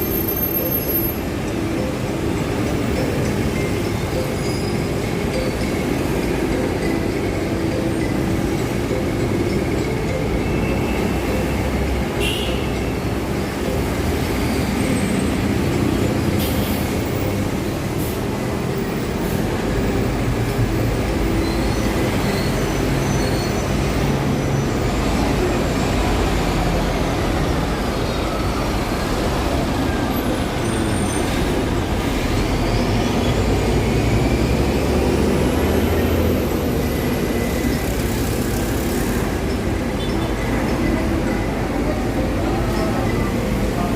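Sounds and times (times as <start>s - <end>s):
buses passing: 0.0s - 43.9s
city street traffic: 0.0s - 43.9s.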